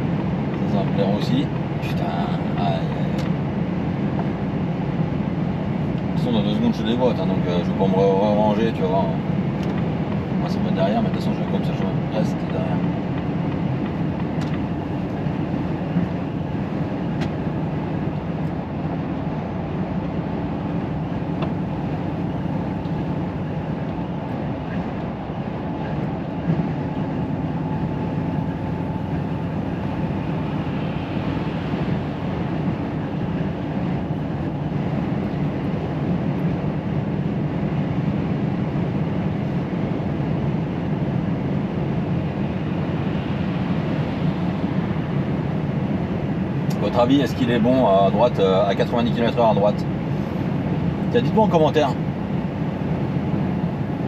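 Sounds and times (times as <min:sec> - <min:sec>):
truck engine drone: 0:00.0 - 0:54.0
tyre and road noise: 0:00.0 - 0:54.0.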